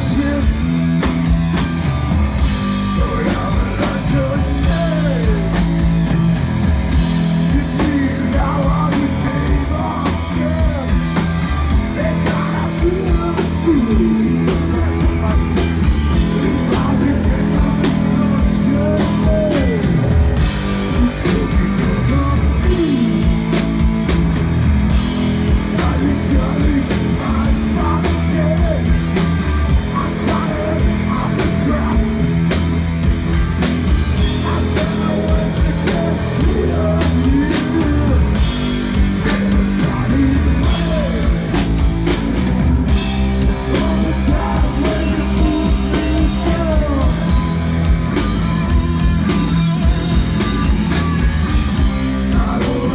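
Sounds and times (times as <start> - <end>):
rock band playing: 0.0 - 52.9.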